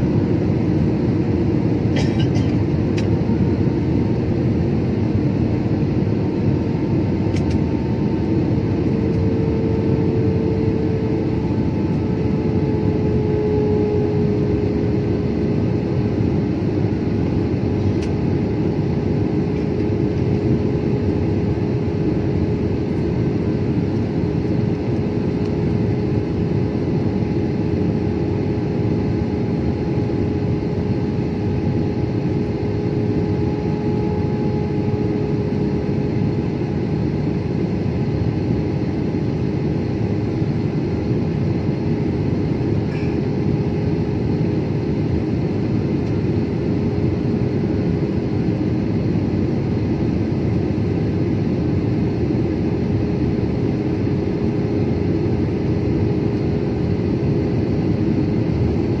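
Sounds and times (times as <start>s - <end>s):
airliner cabin engine rush: 0.0s - 59.0s.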